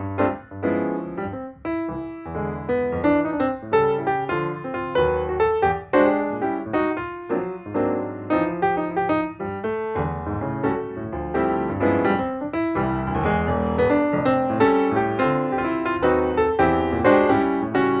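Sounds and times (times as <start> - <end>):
quick piano run: 0.0 - 18.0.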